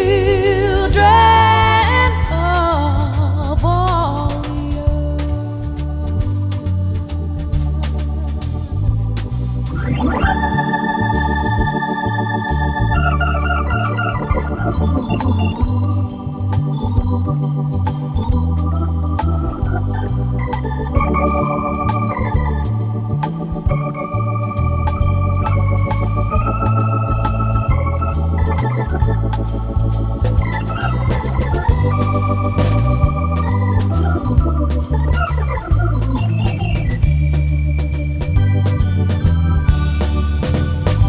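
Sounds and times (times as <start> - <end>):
bass line: 0.0 - 41.0
organ chords and melody: 0.0 - 41.0.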